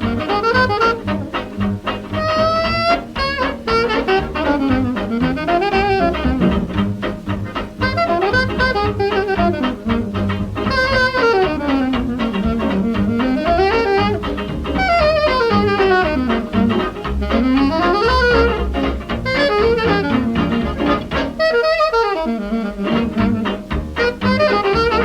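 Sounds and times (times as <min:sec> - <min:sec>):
jazz dance orchestra on old record: 0:00.0 - 0:25.0.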